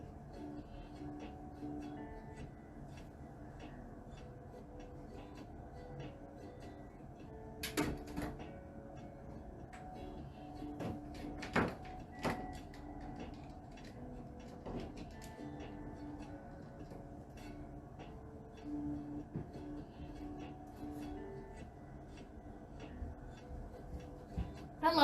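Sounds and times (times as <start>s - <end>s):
soft background music: 0.0s - 25.0s.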